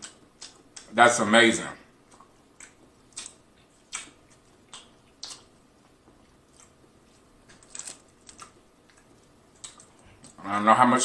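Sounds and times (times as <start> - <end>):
chewing with lip smacks: 0.0 - 1.0, 2.0 - 10.5.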